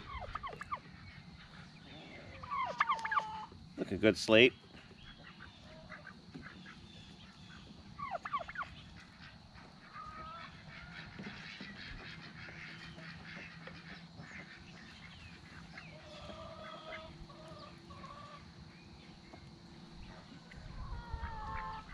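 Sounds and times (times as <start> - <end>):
poultry calling and clucking: 0.0 - 21.9.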